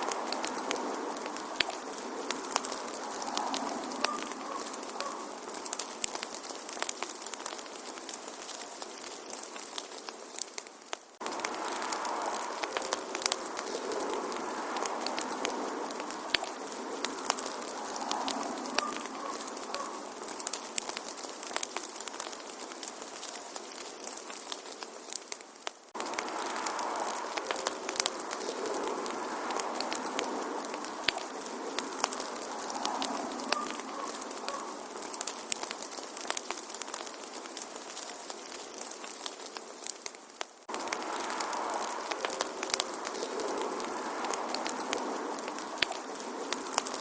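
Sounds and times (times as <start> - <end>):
wood fire crackling and popping: 0.0 - 47.0.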